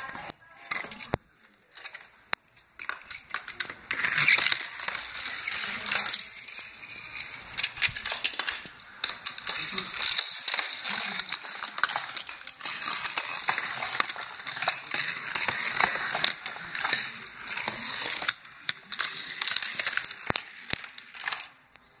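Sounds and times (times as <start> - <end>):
toy cars clicking: 0.0 - 22.0.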